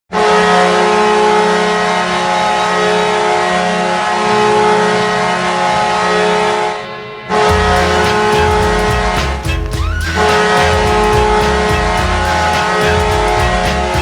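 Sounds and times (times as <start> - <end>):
hockey goal horn blast: 0.1 - 14.0.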